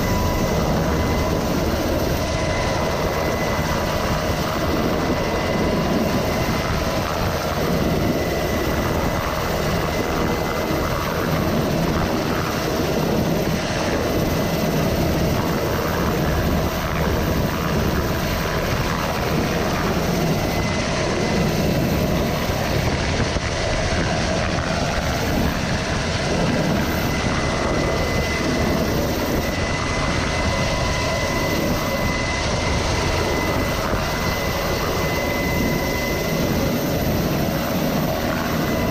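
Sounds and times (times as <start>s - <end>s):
helicopter hovering: 0.0s - 38.9s.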